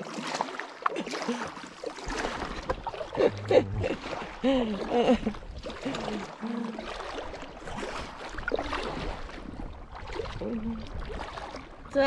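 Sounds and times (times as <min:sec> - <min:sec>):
kayak paddles splashing in water: 0:00.0 - 0:12.0.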